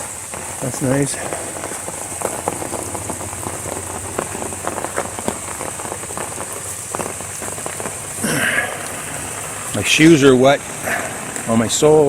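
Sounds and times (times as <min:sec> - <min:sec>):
rain drops tapping: 0:00.0 - 0:12.0.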